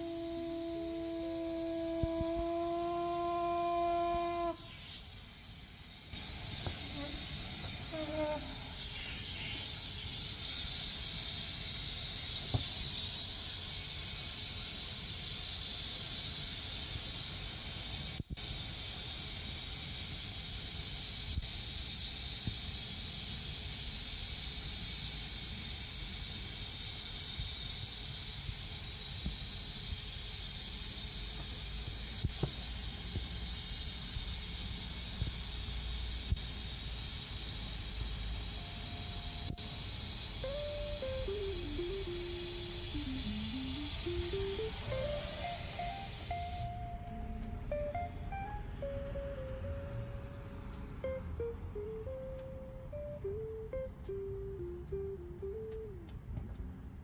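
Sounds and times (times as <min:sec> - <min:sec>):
high outdoor background hiss: 0:00.0 - 0:57.0.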